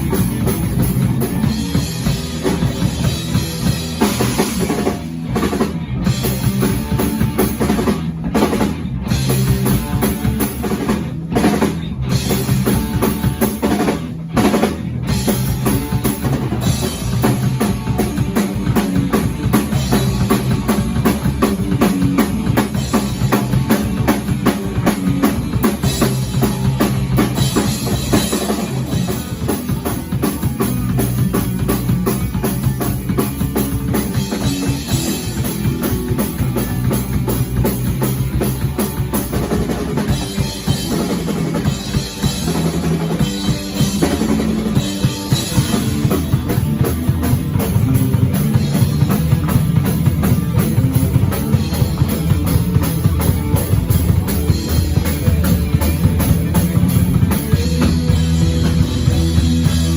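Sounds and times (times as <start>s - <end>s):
instrumental rock music: 0.0s - 59.9s
rapid bass drum and cymbals: 0.0s - 59.9s.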